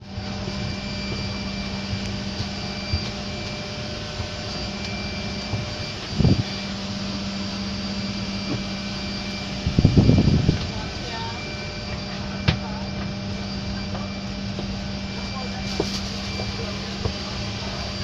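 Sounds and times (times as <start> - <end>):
airliner cabin engine drone: 0.0 - 18.0.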